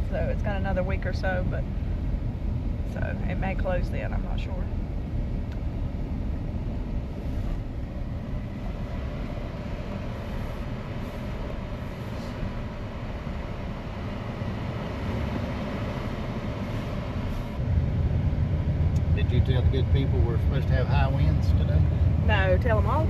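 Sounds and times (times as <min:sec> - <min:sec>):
vehicle cabin engine rumble: 0:00.0 - 0:23.0.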